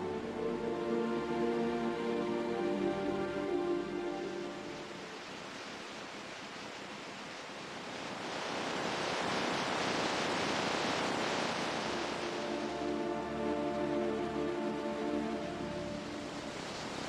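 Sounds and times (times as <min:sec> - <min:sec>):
ocean waves surf: 0:00.0 - 0:17.0.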